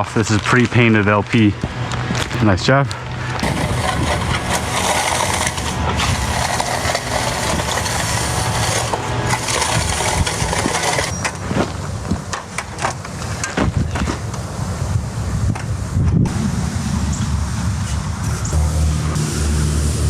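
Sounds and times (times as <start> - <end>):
loud rushing noise: 1.2 - 20.0
engine running at low revs: 1.5 - 13.4, 14.0 - 20.0.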